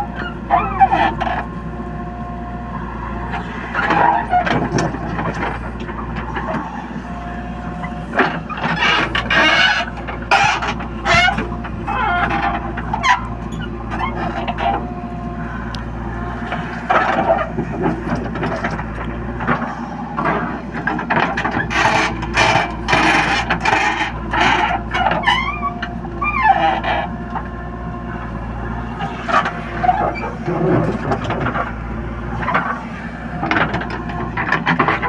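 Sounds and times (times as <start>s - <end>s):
diesel engine under load: 0.0s - 35.0s
squeals and scraping: 0.0s - 35.0s.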